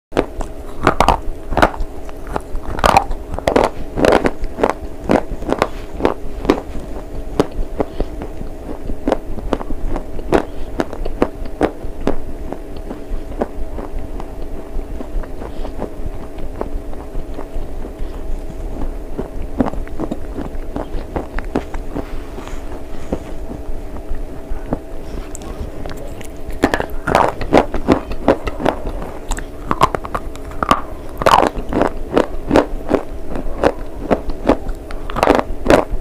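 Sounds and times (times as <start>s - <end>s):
crunching while chewing: 0.2s - 36.0s.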